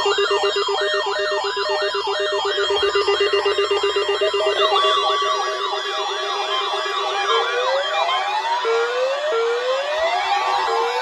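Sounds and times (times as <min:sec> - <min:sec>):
electronic siren sweeps: 0:00.0 - 0:11.0.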